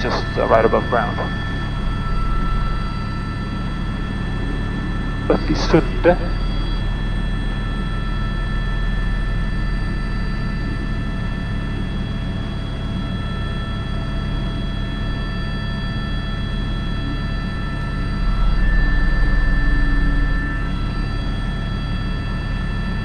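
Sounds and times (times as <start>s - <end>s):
helicopter rotor beat: 0.0s - 23.0s
helicopter turbine whine: 0.0s - 23.0s.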